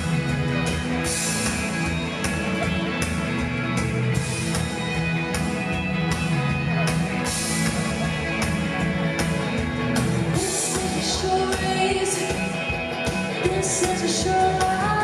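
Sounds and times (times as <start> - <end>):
guitar: 0.0 - 15.0
live pop-rock band playing: 0.0 - 15.0
steady drum beat: 0.0 - 15.0.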